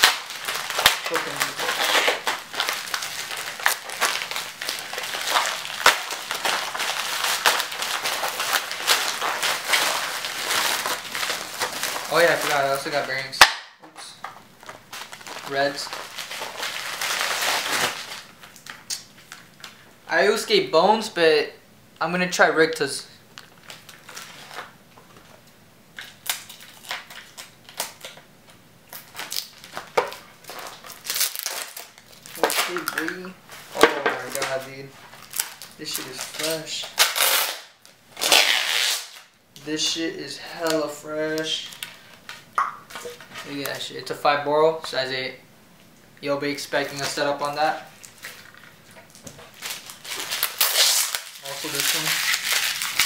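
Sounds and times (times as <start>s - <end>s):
plastic envelope crinkling: 0.0s - 13.5s, 14.2s - 19.9s, 23.3s - 25.4s, 26.0s - 44.1s, 46.5s - 53.0s.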